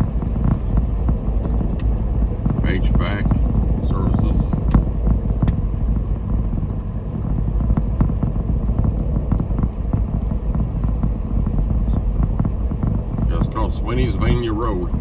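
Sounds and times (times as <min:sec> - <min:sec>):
car tyre and engine rumble: 0:00.0 - 0:15.0
faint road ticks: 0:00.0 - 0:15.0.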